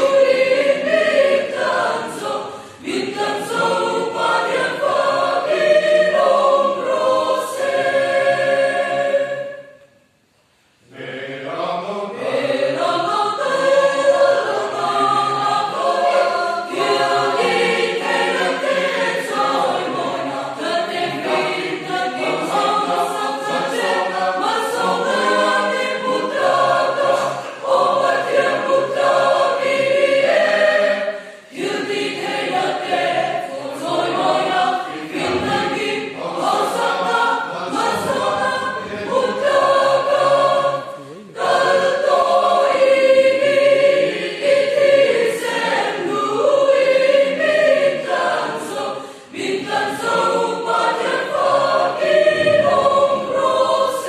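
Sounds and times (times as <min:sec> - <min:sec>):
choir singing: 0:00.0 - 0:10.0, 0:10.8 - 0:54.0.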